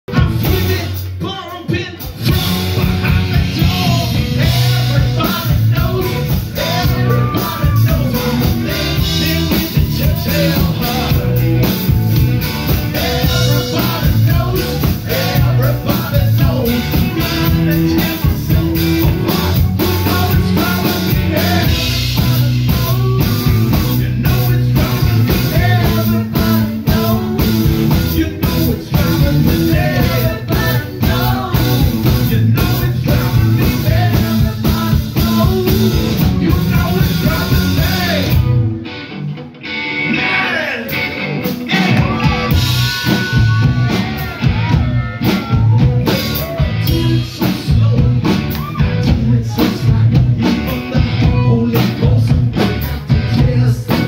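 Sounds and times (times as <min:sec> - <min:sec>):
live rock band playing: 0:00.0 - 0:54.0
person singing: 0:00.1 - 0:38.6, 0:39.9 - 0:54.0.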